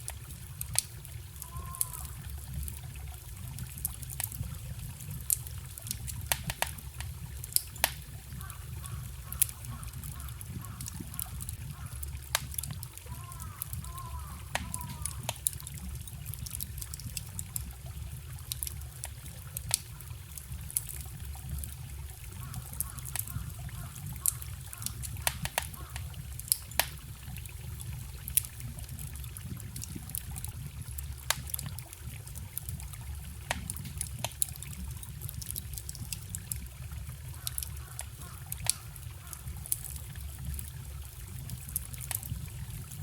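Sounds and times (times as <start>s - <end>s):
small stream rushing: 0.0s - 43.0s
wood fire crackling and popping: 0.0s - 43.0s.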